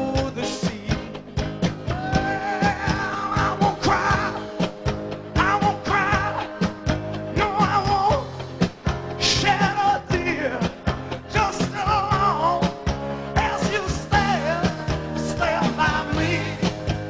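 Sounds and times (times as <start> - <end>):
person singing: 0.0 - 4.7, 5.4 - 8.4, 9.2 - 17.0
drums and guitar: 0.0 - 17.0.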